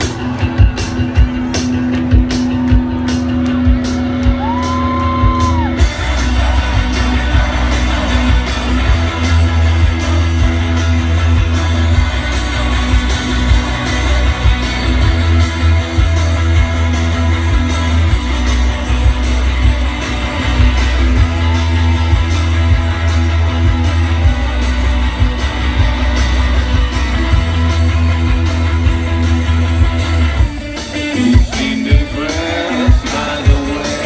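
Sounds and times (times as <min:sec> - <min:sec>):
drums: 0:00.0 - 0:34.0
electric guitars: 0:00.0 - 0:34.0
heavy bass: 0:00.0 - 0:34.0.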